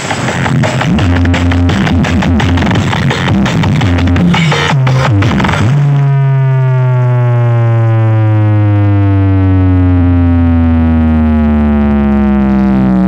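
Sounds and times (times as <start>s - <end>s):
falling electronic bass tone: 0.0s - 13.0s.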